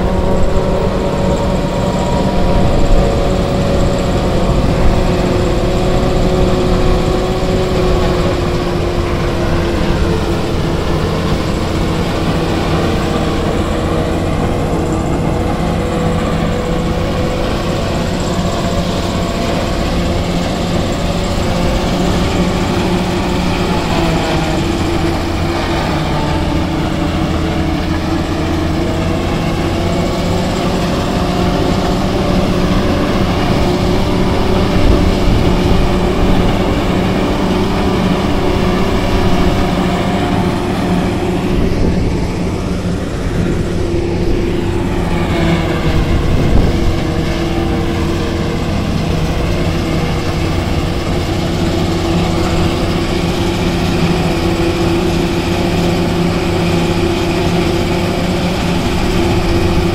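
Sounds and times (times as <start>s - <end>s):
cutter and blower noise: 0.0s - 59.9s
harvester engine drone: 0.0s - 59.9s.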